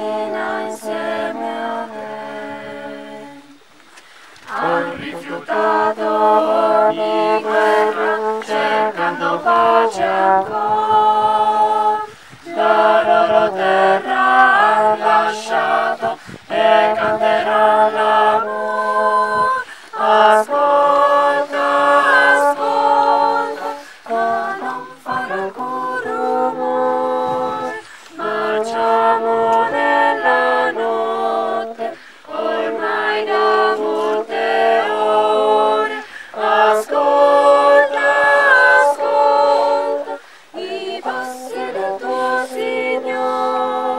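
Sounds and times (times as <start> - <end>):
choir singing unaccompanied: 0.0 - 43.9.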